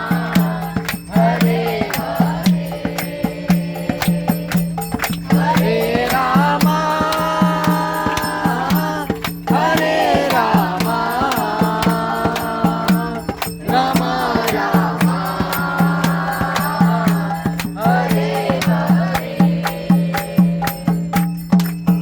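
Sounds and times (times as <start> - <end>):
percussion striking a beat: 0.0 - 22.0
voices singing a chant: 0.0 - 22.0.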